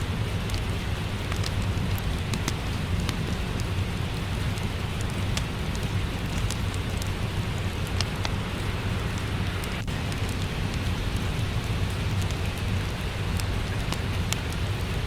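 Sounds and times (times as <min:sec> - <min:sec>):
steady rainfall: 0:00.0 - 0:15.0
wood fire crackling: 0:00.0 - 0:15.0.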